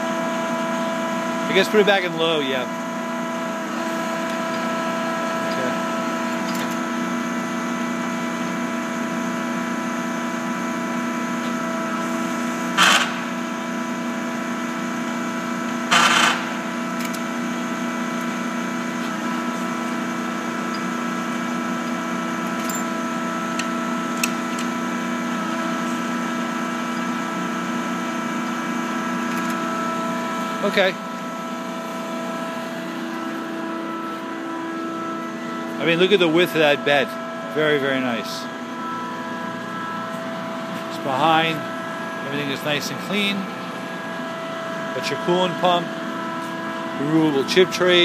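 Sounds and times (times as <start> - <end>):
lathe humming: 0.0 - 48.0.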